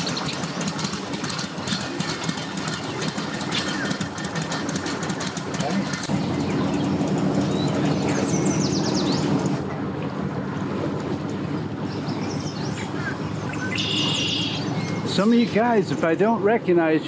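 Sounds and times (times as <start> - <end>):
birds chirping: 0.0 - 9.7, 11.3 - 17.0
boat engine idling: 0.0 - 17.0.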